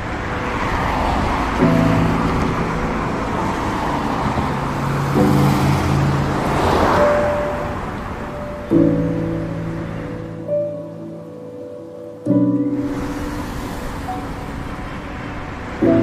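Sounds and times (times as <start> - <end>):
sustained synth chords: 0.0 - 16.0
whooshing wash: 0.0 - 16.0.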